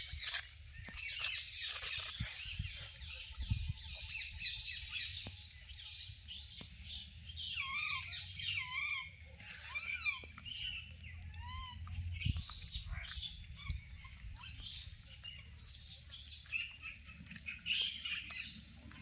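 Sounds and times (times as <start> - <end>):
lower wavering bird calls: 0.0 - 19.0
small birds chirping: 0.0 - 19.0.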